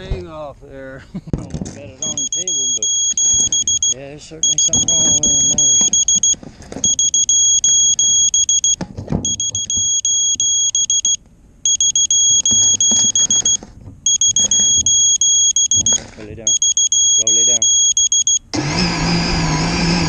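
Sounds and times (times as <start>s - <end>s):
electronic beeper alarm: 2.0s - 18.5s.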